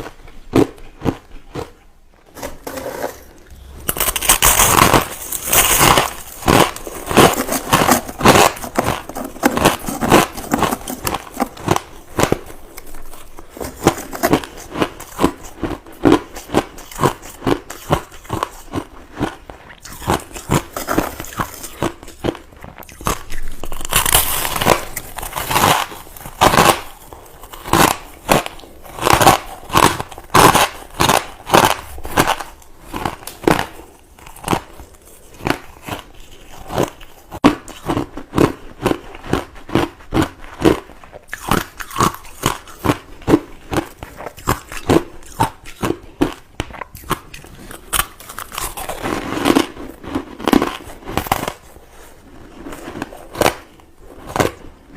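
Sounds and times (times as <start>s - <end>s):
person chewing crushed ice: 0.0s - 54.9s.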